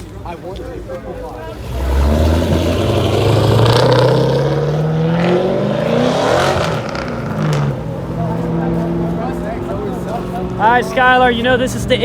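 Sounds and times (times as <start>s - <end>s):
car engine accelerating: 1.4s - 12.0s.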